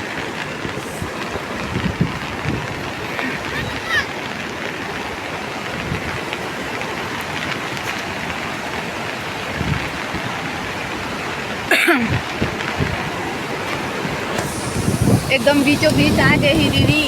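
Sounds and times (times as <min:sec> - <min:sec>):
rain: 0:00.0 - 0:17.0
river rushing in flood: 0:00.0 - 0:17.0.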